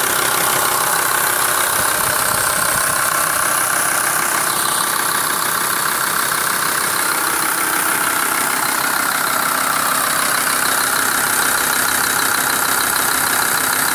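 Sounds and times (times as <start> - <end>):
diesel engine idling with knock: 0.0 - 13.9.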